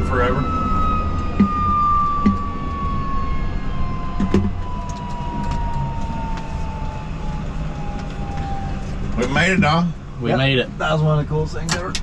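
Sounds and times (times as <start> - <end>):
high whine falling in pitch: 0.0 - 10.3
helicopter rotor and turbine rumble: 0.0 - 12.0.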